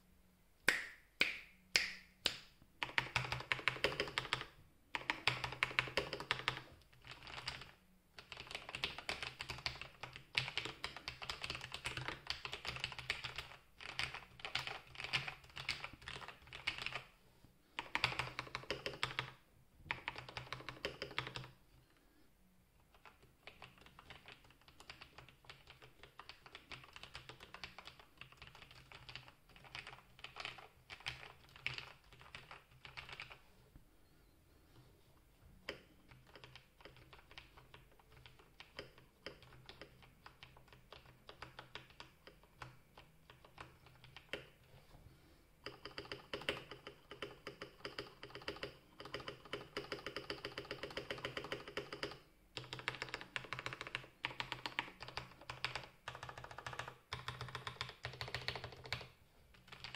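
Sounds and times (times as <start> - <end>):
mechanical keyboard typing: 2.8 - 17.1, 17.8 - 21.6, 22.8 - 33.4, 35.6 - 44.6, 45.6 - 59.9.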